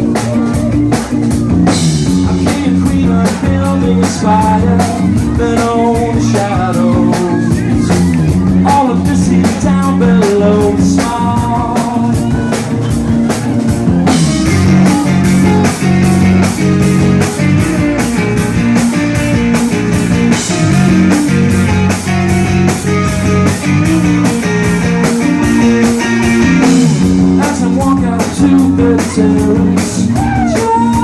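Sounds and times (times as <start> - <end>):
bass guitar: 0.0 - 31.0
drum kit beat: 0.0 - 31.0
electric guitars: 0.0 - 31.0.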